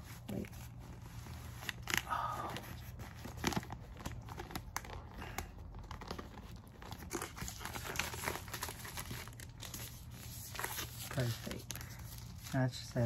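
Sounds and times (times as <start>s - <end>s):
plastic packaging crinkling: 0.2s - 13.0s.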